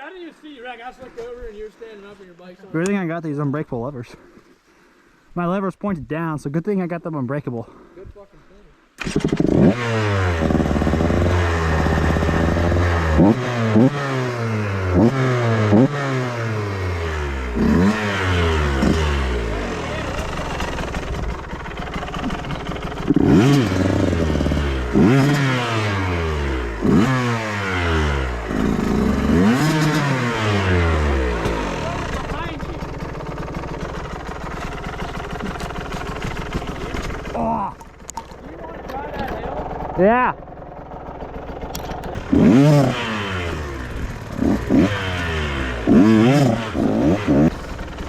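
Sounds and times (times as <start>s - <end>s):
dirt bike engine revving: 9.0s - 48.0s.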